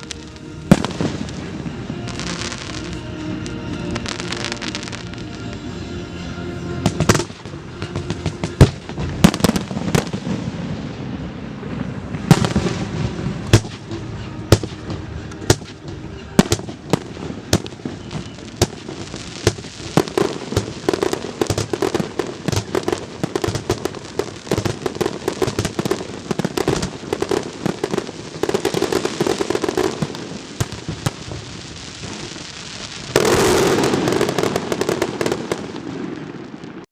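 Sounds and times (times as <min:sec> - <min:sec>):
fireworks crackling: 0:00.0 - 0:36.9
fireworks bangs and pops: 0:06.8 - 0:36.9.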